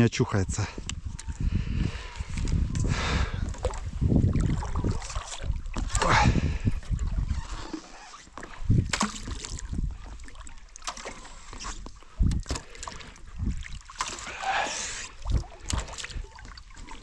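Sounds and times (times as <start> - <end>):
paddle splashing in water: 3.4 - 17.0.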